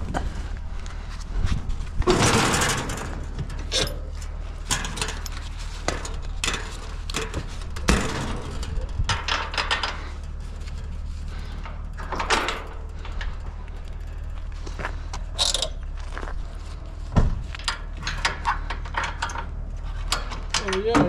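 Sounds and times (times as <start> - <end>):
low engine hum: 0.0 - 21.0
metal barbecue knocking and rattling: 0.0 - 21.0.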